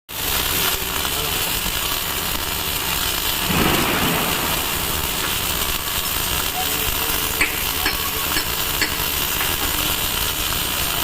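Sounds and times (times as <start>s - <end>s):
electric arc welding crackling: 0.1s - 11.0s.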